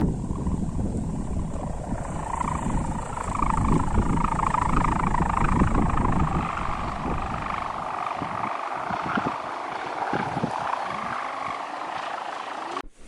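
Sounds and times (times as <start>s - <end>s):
kite hummer droning buzz: 0.0s - 13.0s
wind buffeting microphone: 0.0s - 13.0s.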